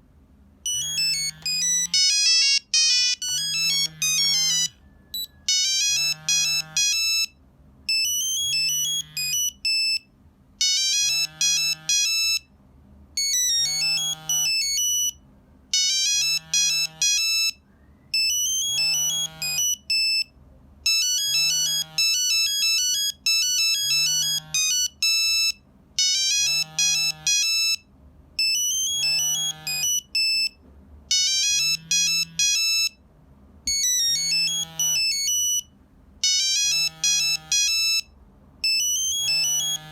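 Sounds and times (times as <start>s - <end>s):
mobile phone ringtone beeps: 0.7s - 10.0s, 10.6s - 12.5s, 13.2s - 17.6s, 18.2s - 20.3s, 20.9s - 33.0s, 33.7s - 39.9s.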